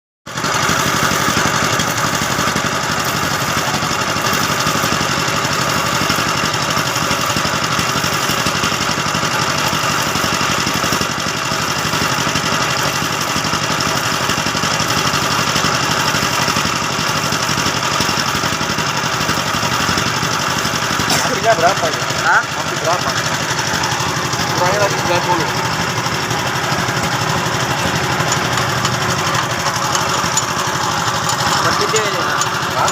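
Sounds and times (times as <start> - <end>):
motor running: 0.3 - 32.9.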